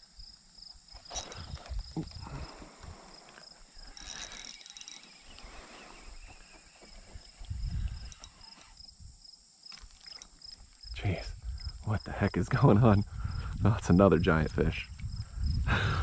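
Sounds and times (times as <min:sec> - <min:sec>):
insects trilling: 0:00.0 - 0:15.8.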